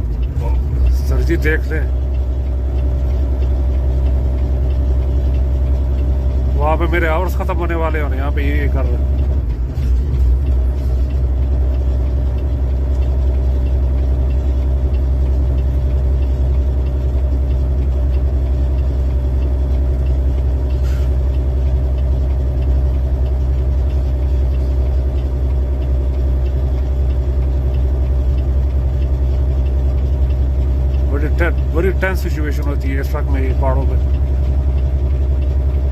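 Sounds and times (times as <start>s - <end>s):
diesel truck engine droning: 0.0s - 35.9s.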